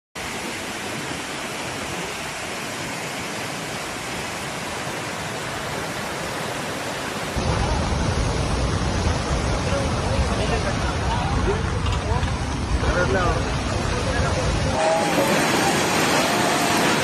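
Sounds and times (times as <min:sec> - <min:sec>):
floodwater rushing: 0:00.2 - 0:17.0.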